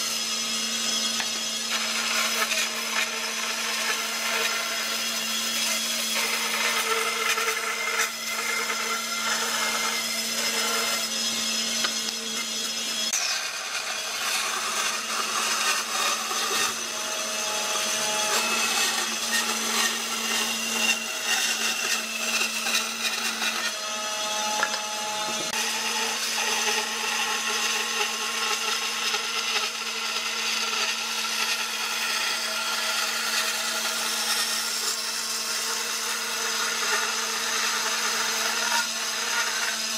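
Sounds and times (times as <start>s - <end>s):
bandsaw motor hum: 0.0s - 39.9s
saw blade rasping through wood: 0.0s - 39.9s.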